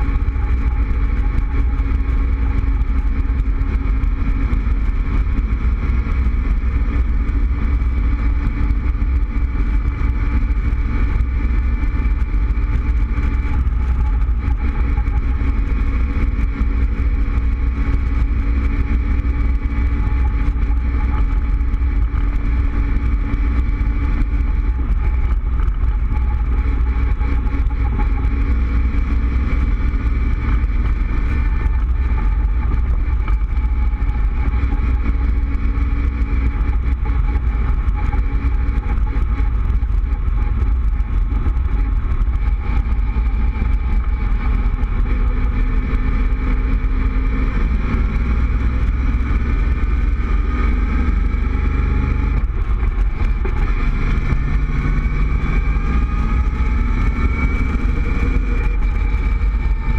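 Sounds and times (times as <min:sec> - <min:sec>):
car engine running steadily: 0:00.0 - 0:59.9
wind rumble on microphone: 0:00.0 - 0:59.9.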